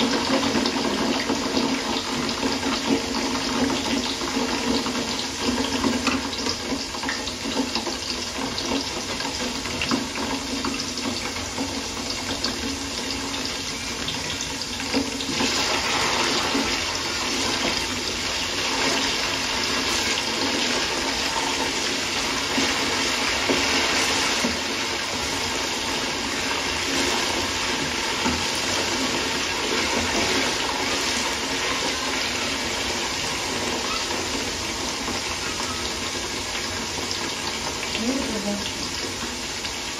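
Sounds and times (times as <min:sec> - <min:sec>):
pot of broth boiling: 0:00.0 - 0:39.9.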